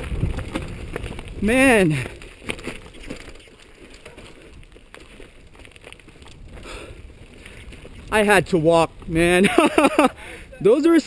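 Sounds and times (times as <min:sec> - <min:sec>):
gravel crunching under bike tyres: 0:00.0 - 0:11.0.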